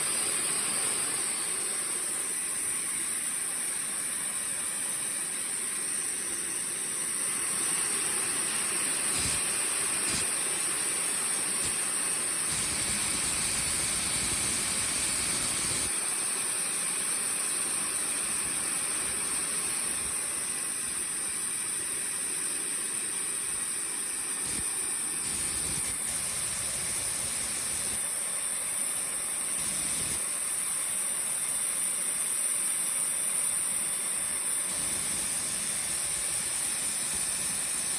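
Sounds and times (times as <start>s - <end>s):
turbojet engine running: 0.0s - 31.2s.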